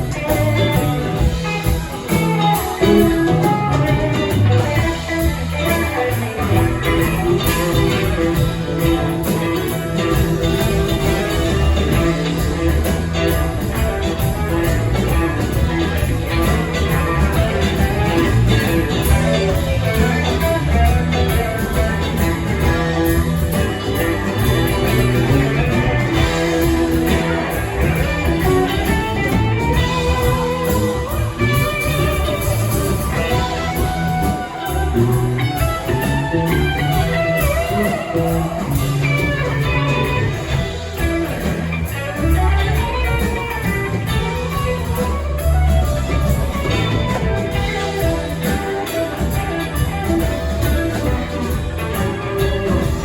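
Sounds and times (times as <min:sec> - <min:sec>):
electric guitar lines: 0:00.0 - 0:53.0
rock band playing: 0:00.0 - 0:53.0.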